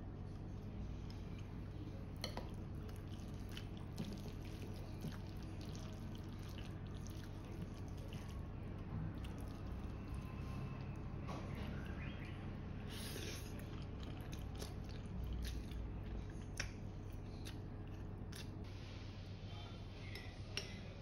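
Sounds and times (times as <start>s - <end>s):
wet squelching of noodles stirred: 0.0s - 19.3s
low steady hum: 0.0s - 21.0s.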